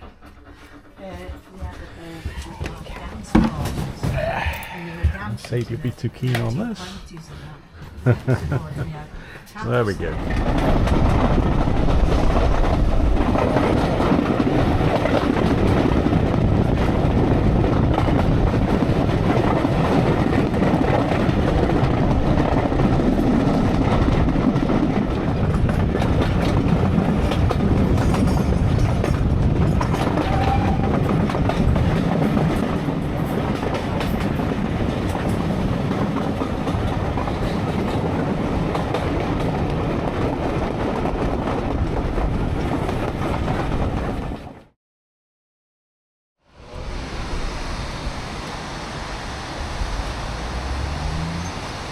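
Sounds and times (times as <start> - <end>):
train wheels rumbling on track: 0.0 - 44.8, 46.4 - 51.9.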